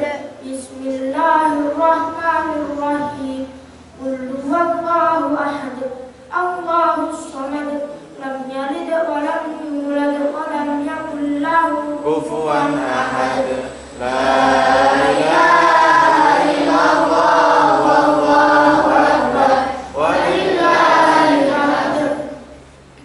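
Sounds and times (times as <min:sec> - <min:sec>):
boy chanting into a microphone: 0:00.0 - 0:22.6.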